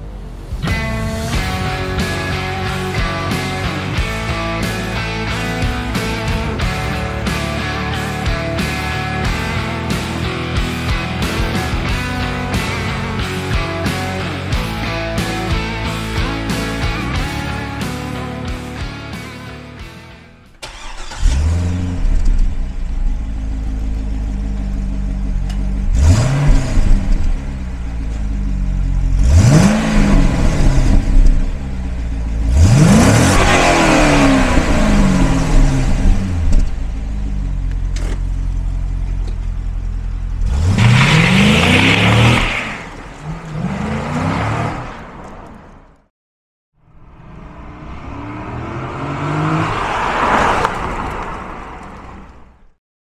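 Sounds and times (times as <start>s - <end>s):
car engine idling and revving: 0.0s - 46.1s, 46.8s - 52.8s
car engine starting: 0.0s - 46.1s, 46.9s - 52.8s.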